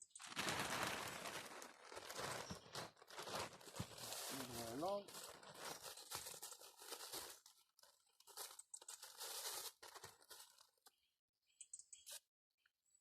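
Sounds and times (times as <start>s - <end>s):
plastic sheeting crinkling: 0.0s - 11.0s.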